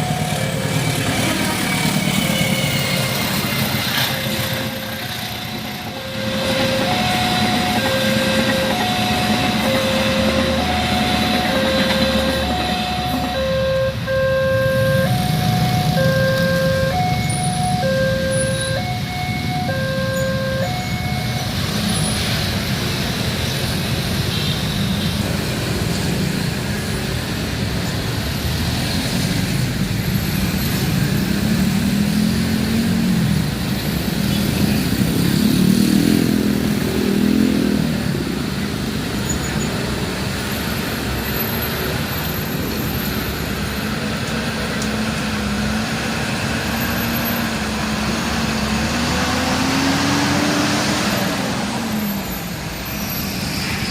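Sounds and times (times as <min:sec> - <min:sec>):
car truck and motorcycle engines passing: 0:05.6 - 0:53.9.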